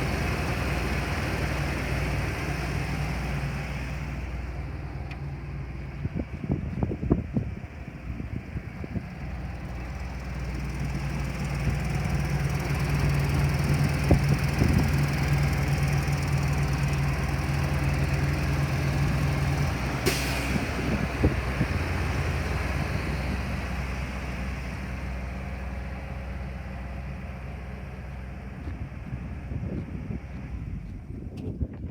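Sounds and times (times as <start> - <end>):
truck engine running: 0.0 - 31.9.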